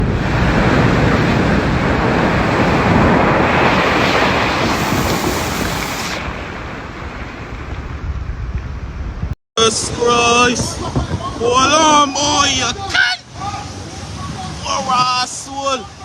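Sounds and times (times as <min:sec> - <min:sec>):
high wind rushing: 0:00.0 - 0:15.3
surging sea water: 0:00.0 - 0:16.0.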